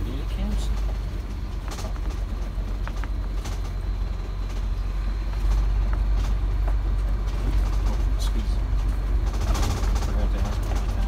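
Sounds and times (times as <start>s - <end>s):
vehicle engine and tyres rumbling: 0.0s - 11.0s.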